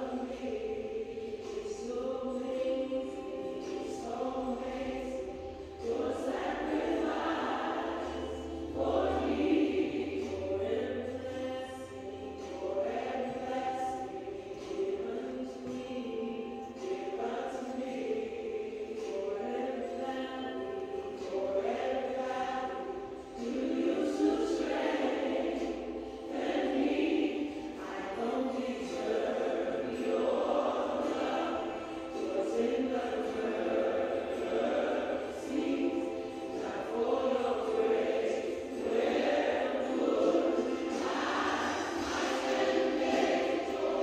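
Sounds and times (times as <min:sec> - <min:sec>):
choir singing: 0:00.0 - 0:44.0.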